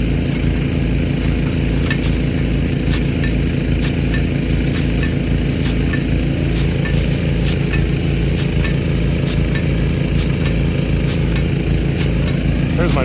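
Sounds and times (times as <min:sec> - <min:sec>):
small engine driving water pump: 0:00.0 - 0:13.0.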